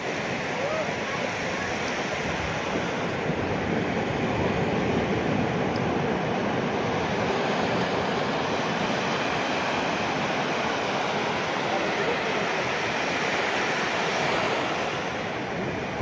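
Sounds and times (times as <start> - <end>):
surf breaking on a beach: 0.0 - 16.0.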